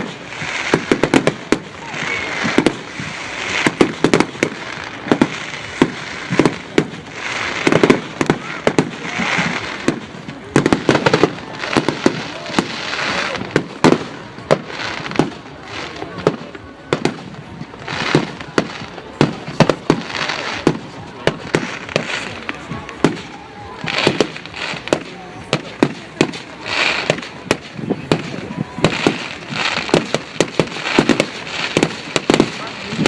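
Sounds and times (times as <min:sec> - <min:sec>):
fireworks bursts and bangs: 0:00.0 - 0:33.0
fireworks crackling: 0:00.0 - 0:33.0.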